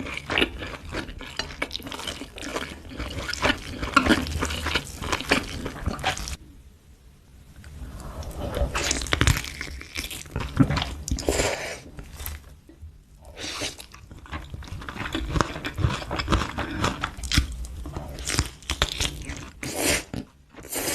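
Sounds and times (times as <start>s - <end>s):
person chewing and crunching food: 0.0s - 6.4s, 8.2s - 12.6s, 13.4s - 20.9s.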